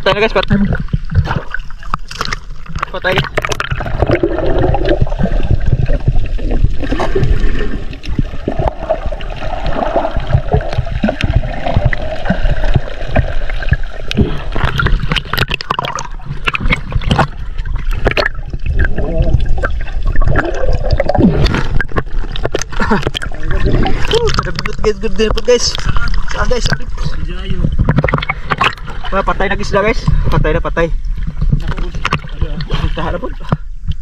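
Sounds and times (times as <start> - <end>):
underwater gurgling and sloshing: 0.0 - 34.0
low rumble: 3.2 - 33.0.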